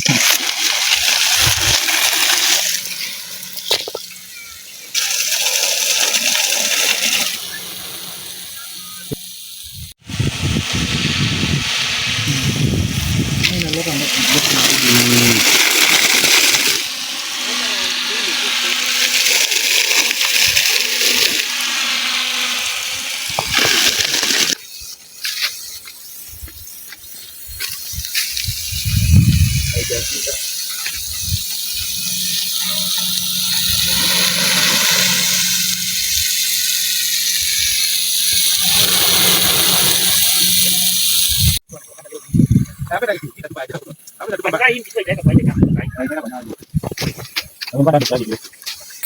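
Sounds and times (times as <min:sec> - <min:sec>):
sprinkler spraying water: 0:00.0 - 0:49.0.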